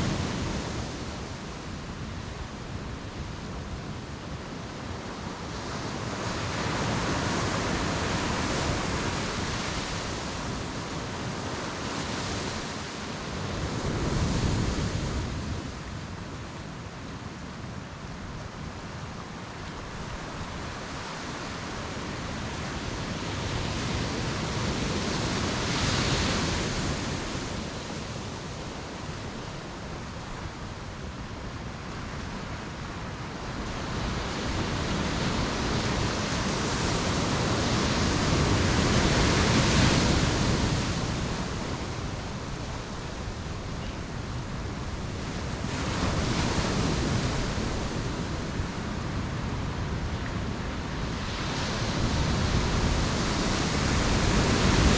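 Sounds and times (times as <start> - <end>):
ocean waves breaking on beach: 0.0 - 54.9.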